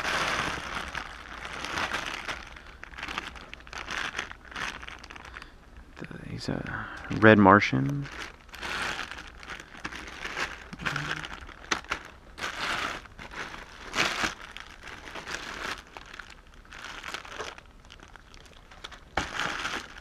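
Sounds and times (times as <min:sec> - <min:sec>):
plastic bags crinkling and rustling: 0:00.0 - 0:06.5, 0:07.1 - 0:20.0.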